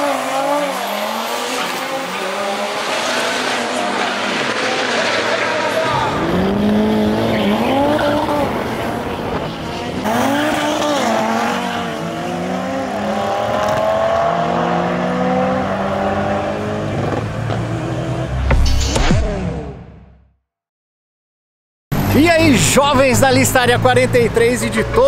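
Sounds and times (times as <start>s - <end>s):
racing car engines at full throttle: 0.0s - 20.0s, 21.9s - 25.0s.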